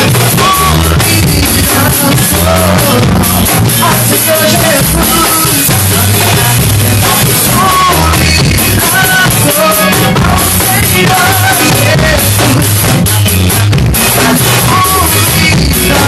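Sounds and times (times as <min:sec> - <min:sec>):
drum kit playing: 0:00.0 - 0:16.0
person singing: 0:00.0 - 0:16.0
upbeat rock song: 0:00.0 - 0:16.0.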